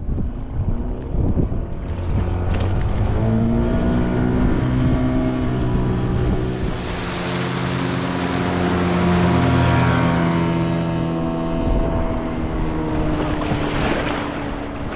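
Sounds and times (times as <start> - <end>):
outboard motor passing: 0.1 - 14.9
water rushing: 2.3 - 14.9.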